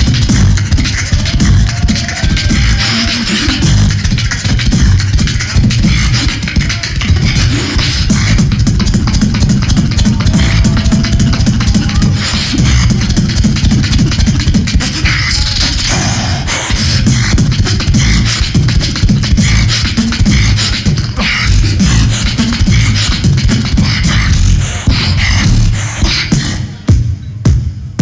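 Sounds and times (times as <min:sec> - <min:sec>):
amplified beatboxing: 0:00.0 - 0:28.0.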